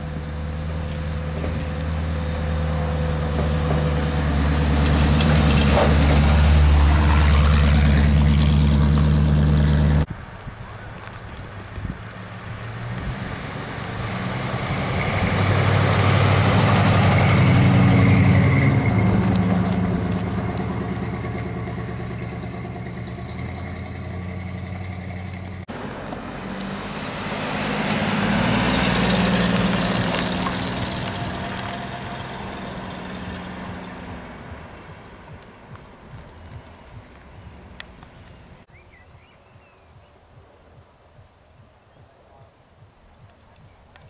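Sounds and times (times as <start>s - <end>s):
cars driving past: 0.0s - 10.4s, 11.0s - 38.7s.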